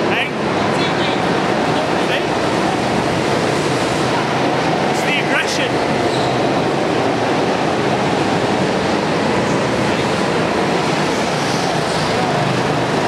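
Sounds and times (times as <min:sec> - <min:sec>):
go-kart engines droning: 0:00.0 - 0:13.0.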